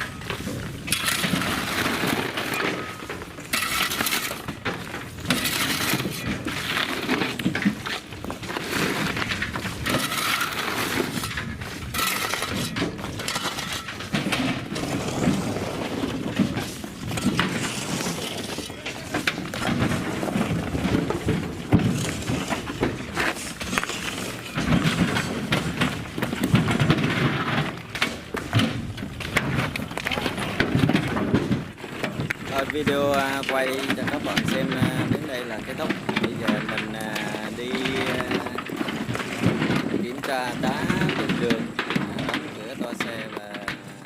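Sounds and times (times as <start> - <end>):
rocks tumbling and clattering: 0.0 - 44.0.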